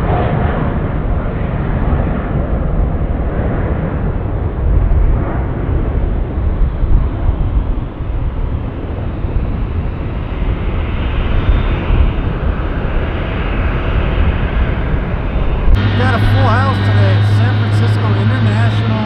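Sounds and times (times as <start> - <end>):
jet airliner engine rumble: 0.0 - 19.0.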